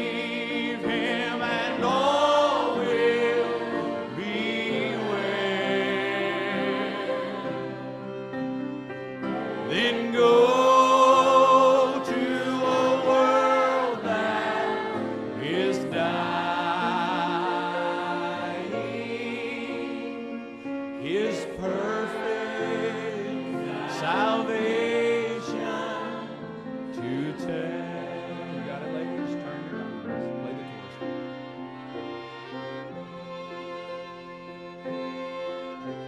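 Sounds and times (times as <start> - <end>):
group singing a hymn: 0.0 - 30.7
fiddles: 0.0 - 36.0.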